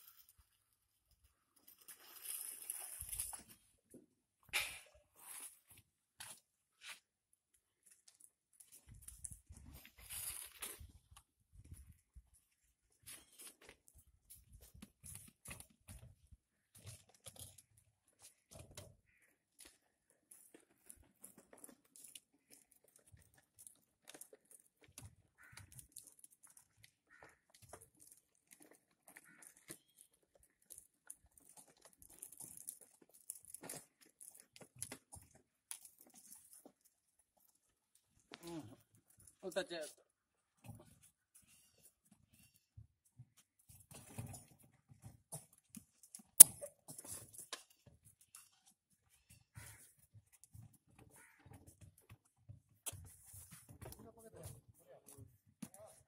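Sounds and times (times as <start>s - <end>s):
pipe fittings clicking and scraping: 0.0s - 6.4s, 12.6s - 39.4s, 43.6s - 56.0s.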